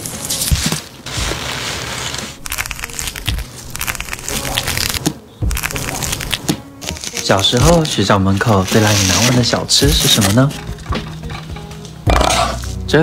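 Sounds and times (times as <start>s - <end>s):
green onions rustling and snapping: 0.0s - 10.7s.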